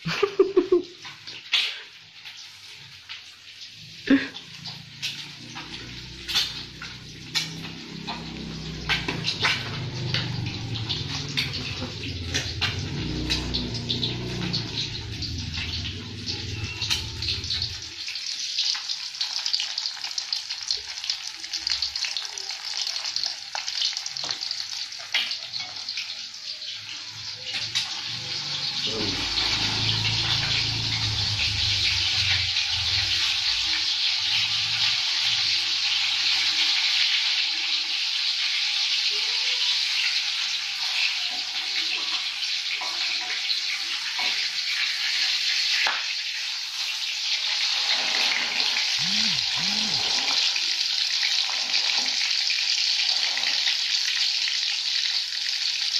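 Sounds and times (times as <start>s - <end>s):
egg sizzling in oil: 0.1s - 15.9s, 16.6s - 49.0s.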